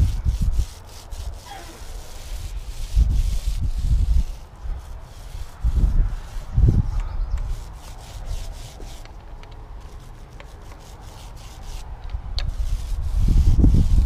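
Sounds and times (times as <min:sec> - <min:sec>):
paint roller rubbing on wood: 0:00.0 - 0:14.0.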